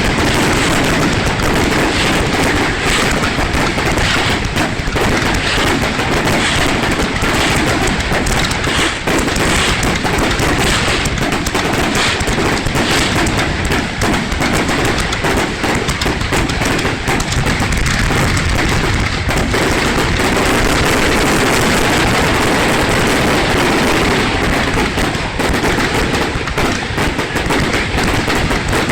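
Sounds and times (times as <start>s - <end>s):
fireworks bangs and crackling: 0.0s - 28.9s.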